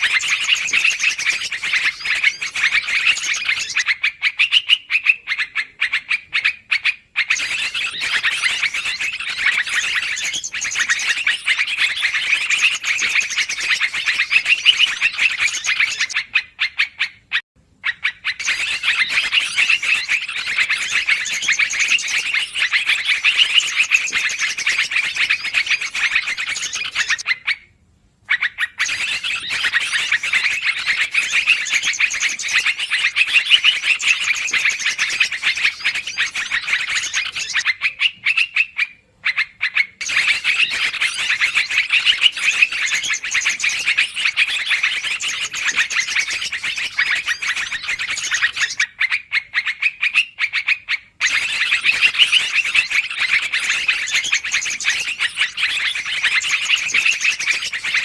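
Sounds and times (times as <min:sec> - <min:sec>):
bird chattering chirps: 0:00.0 - 0:27.6, 0:28.3 - 0:58.0.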